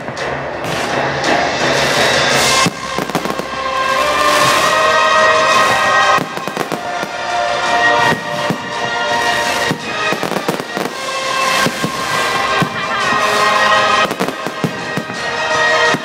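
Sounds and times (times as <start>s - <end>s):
fireworks bangs and crackles: 0.0s - 16.0s
loud music playing: 0.0s - 16.0s.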